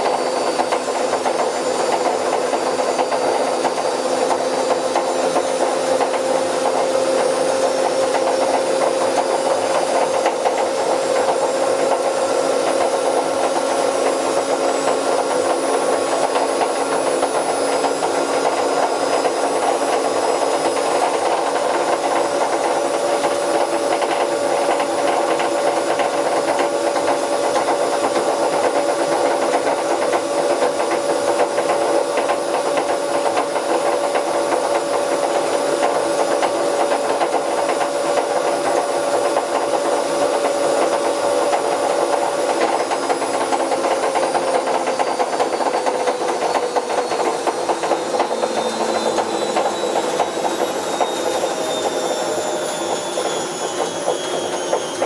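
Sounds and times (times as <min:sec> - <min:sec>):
washing machine drum whining: 0:00.0 - 0:55.0.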